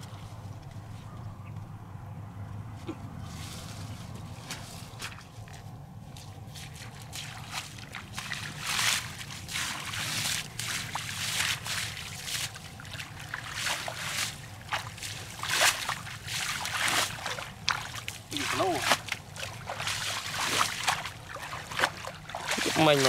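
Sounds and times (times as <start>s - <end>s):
feet splashing through water: 3.3s - 23.0s.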